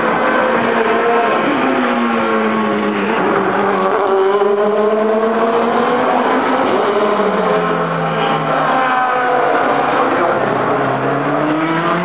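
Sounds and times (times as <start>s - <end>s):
race car engine: 0.0s - 12.0s.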